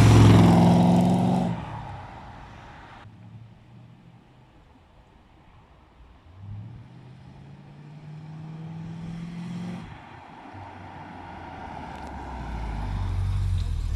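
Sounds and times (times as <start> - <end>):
car engine accelerating: 0.0 - 4.2, 6.2 - 13.9.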